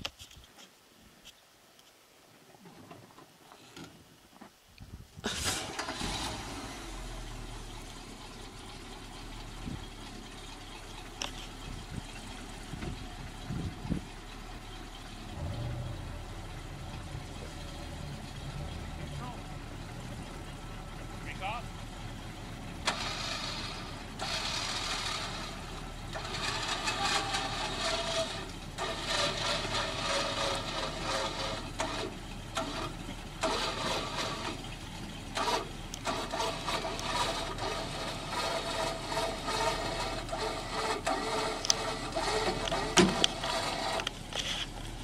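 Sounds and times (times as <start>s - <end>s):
winch whining and grinding: 5.5s - 45.0s.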